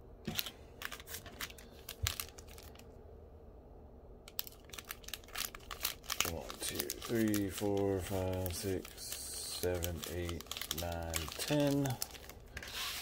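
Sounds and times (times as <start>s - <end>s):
foil wrappers crinkling: 0.3s - 2.8s, 4.3s - 13.0s.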